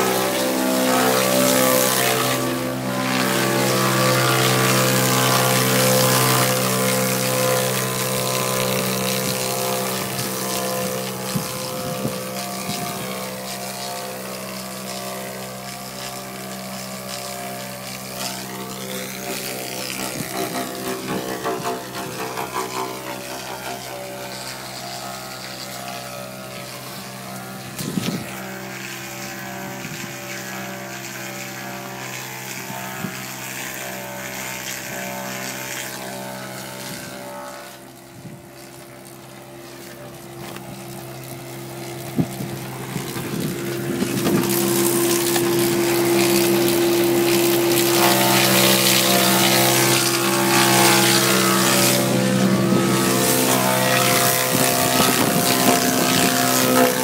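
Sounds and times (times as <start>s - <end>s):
strong steady whine: 0.0s - 35.3s, 36.6s - 57.0s
lathe machinery drone: 0.0s - 57.0s.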